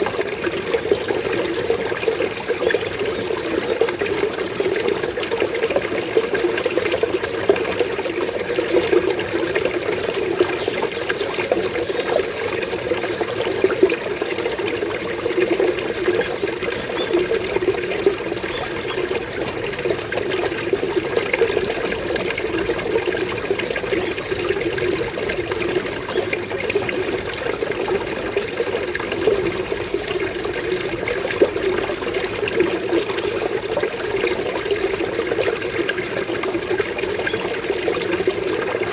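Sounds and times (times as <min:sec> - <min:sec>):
water burbling: 0:00.0 - 0:38.9.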